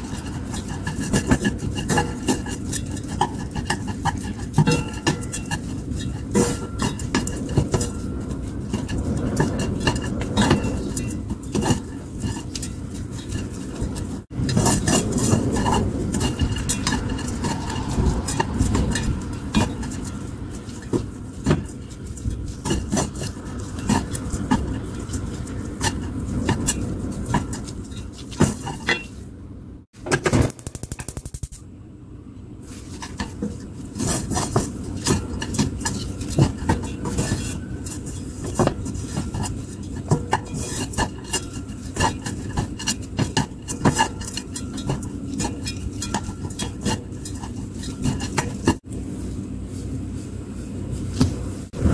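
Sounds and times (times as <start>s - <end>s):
wood tapping and scraping a pan: 0.0s - 29.2s, 32.8s - 48.9s.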